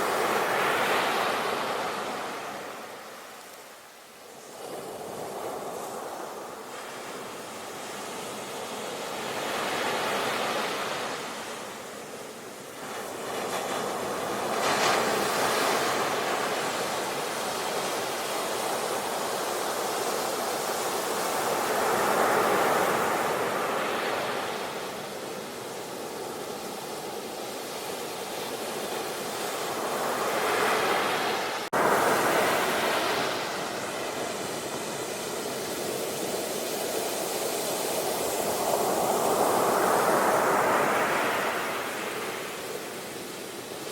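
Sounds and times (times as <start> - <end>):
sea waves washing on shore: 0.0 - 43.9.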